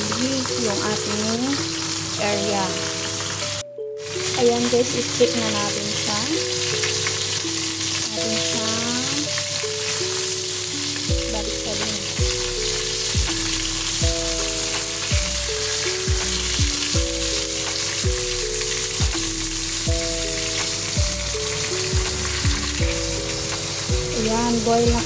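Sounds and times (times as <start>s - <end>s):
background music: 0.0s - 25.0s
fish frying in oil sizzling: 0.0s - 25.0s.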